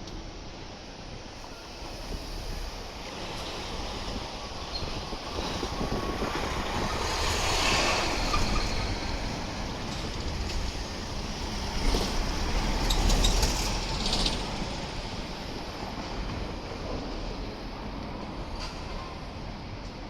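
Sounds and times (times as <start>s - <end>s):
rumble of passing vehicles: 0.1s - 20.0s.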